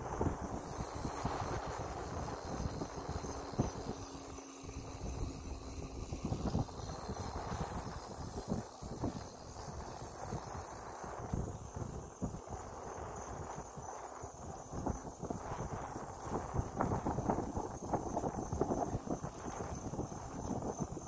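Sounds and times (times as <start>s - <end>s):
steady high hiss: 0.0s - 21.0s
wind buffeting microphone: 0.0s - 21.0s.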